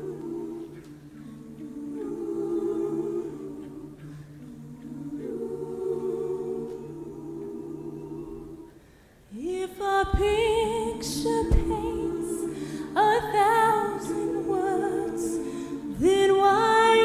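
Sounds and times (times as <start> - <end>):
choir singing wordless chords: 0.0 - 17.0.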